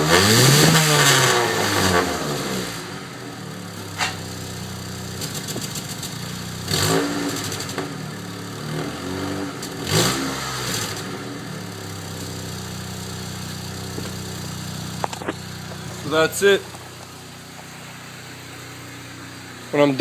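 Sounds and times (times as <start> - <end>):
car exhaust idling and revving: 0.0 - 20.0.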